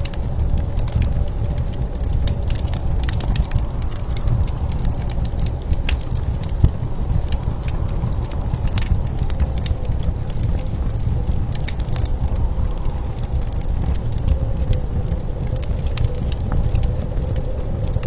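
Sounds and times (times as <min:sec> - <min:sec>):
low blizzard wind rumble: 0:00.0 - 0:18.0
wood fire crackling and popping: 0:00.0 - 0:18.0.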